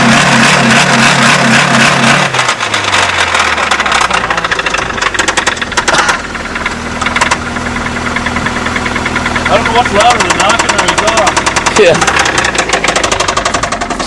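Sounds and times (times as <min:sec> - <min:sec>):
car engine knocking: 0:00.0 - 0:14.0.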